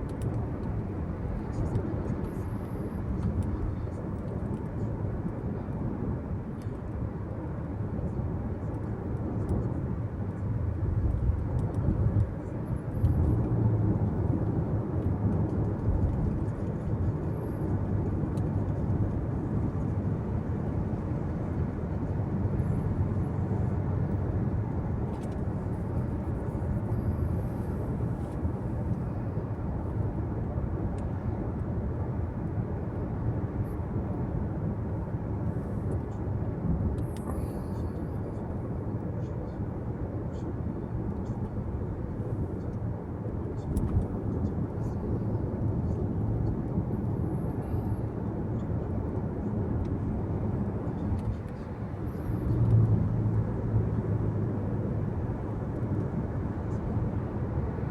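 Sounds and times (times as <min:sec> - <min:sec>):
road and tyre noise: 0:00.0 - 0:57.9.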